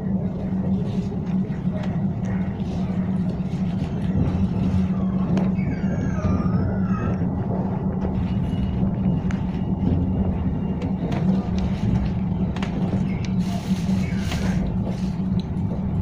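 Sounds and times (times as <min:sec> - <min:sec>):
tram ride rumble: 0:00.0 - 0:16.0.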